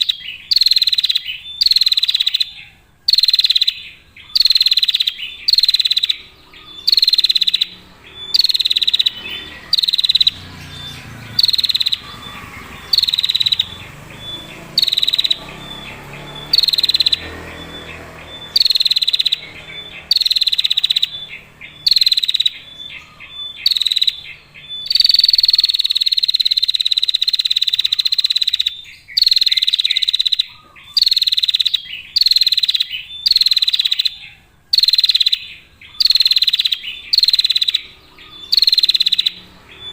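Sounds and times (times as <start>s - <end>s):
bird buzzy trill: 0.0s - 39.9s.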